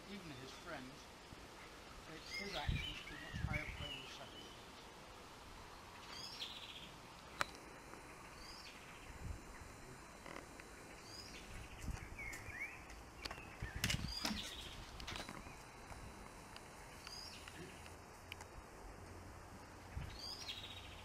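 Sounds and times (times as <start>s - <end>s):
small birds chirping: 0.0s - 18.6s, 19.6s - 21.0s.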